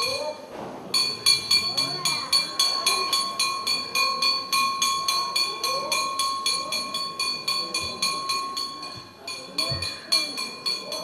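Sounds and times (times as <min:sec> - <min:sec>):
faint voices: 0:00.0 - 0:11.0
hand bell ringing: 0:01.0 - 0:11.0.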